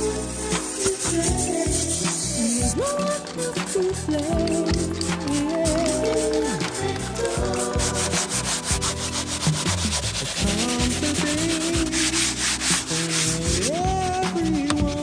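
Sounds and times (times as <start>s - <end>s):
scrubbing door panel: 0.0s - 15.0s
song with fast beat: 0.0s - 15.0s.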